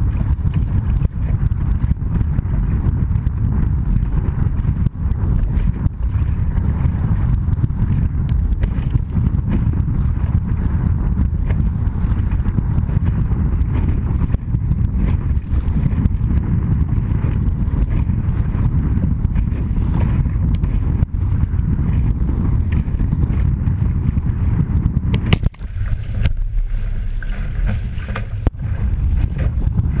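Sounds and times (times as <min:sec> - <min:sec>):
water splashing along hull: 0:00.0 - 0:30.0
wind buffeting microphone: 0:00.0 - 0:30.0.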